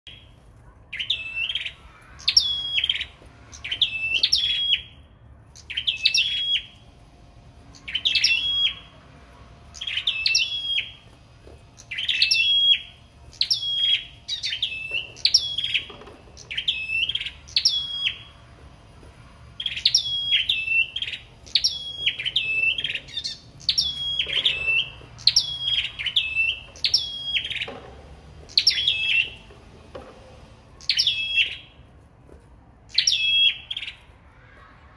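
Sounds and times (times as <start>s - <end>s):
songbirds whistling: 0.9s - 7.0s, 7.6s - 30.1s, 30.8s - 31.9s, 32.9s - 34.8s.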